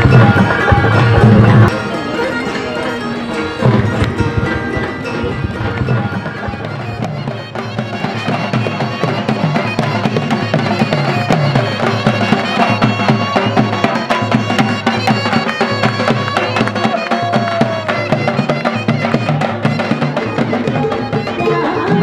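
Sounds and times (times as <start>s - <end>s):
nasal reed pipe melody: 0.0s - 22.0s.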